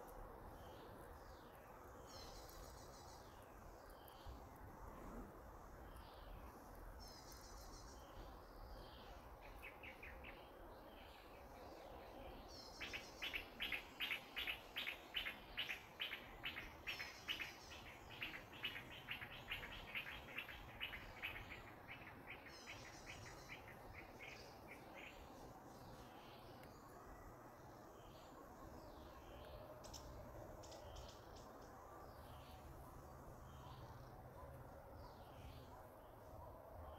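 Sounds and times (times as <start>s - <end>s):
faint outdoor background noise: 0.0s - 36.9s.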